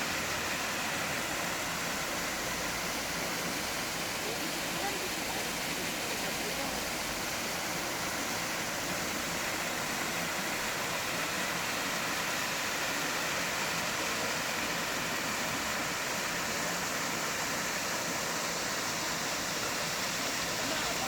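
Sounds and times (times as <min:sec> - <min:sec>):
waterfall splashing: 0:00.0 - 0:21.0.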